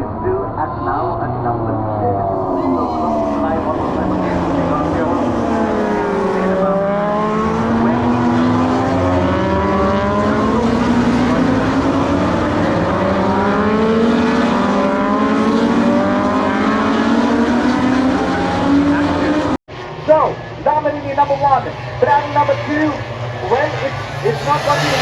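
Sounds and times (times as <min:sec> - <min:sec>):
racing motorcycles accelerating past: 0:00.0 - 0:20.5, 0:21.7 - 0:25.0.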